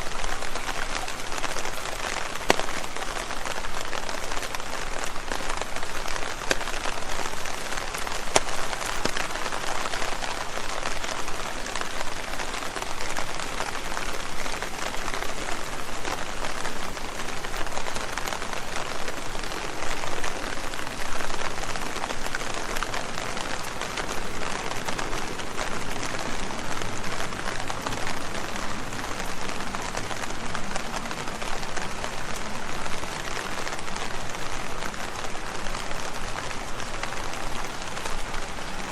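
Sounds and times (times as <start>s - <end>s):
rain pattering on leaves: 0.0s - 38.9s.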